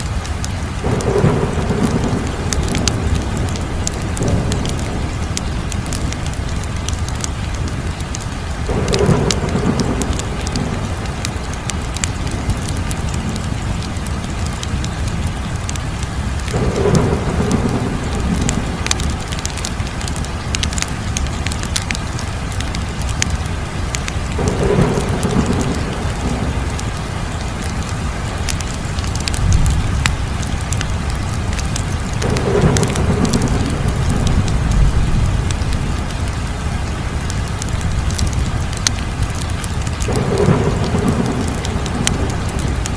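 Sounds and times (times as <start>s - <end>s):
wood fire crackling and popping: 0.0s - 36.5s, 37.2s - 42.9s
steady low rumble: 0.1s - 42.9s.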